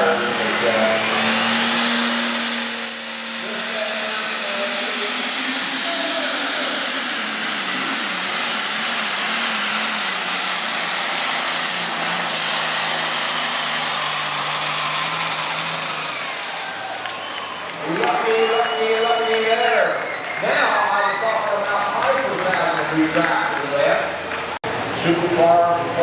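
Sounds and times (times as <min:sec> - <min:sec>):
high turbo whine: 0:00.0 - 0:26.0
tractor engine running hard: 0:00.0 - 0:26.0.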